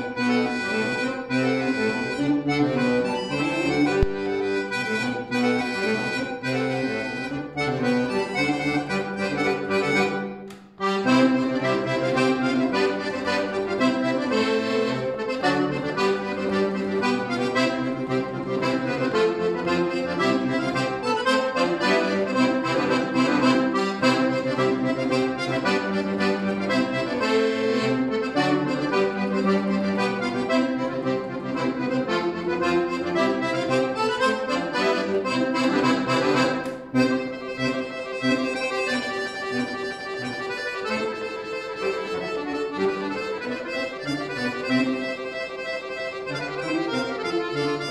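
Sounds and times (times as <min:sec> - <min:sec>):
piano accordion playing quick notes: 0:00.0 - 0:47.9.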